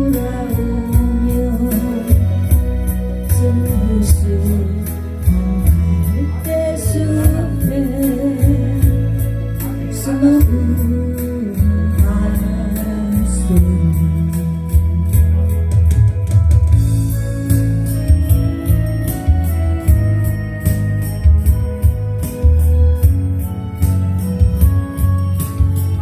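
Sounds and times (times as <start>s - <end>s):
backing track with bass and drums: 0.0s - 26.0s.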